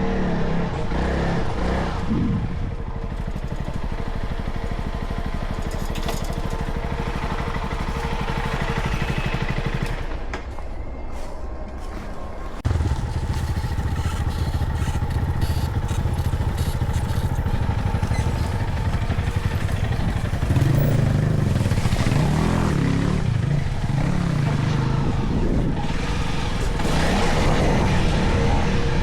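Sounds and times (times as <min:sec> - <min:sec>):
motorcycle engine revving: 0:00.0 - 0:10.3, 0:12.6 - 0:29.0.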